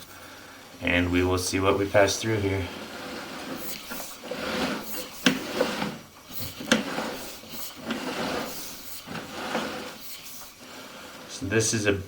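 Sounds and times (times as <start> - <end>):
cable rubbing and scraping: 1.6 - 11.4.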